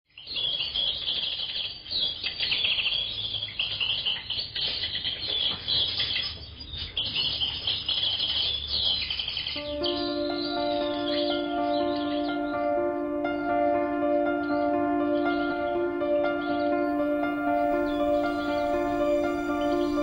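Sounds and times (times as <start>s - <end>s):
birds chirping and twittering: 0.1s - 20.0s.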